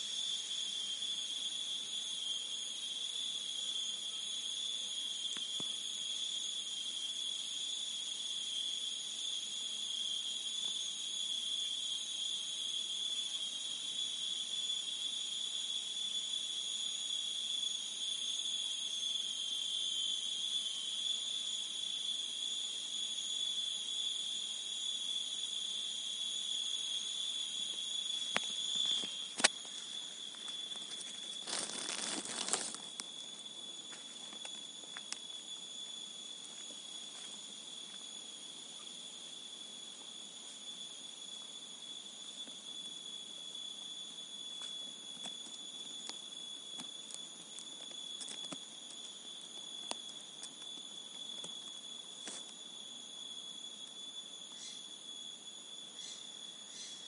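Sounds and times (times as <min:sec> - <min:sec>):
insects high-pitched drone: 0:00.0 - 0:57.0.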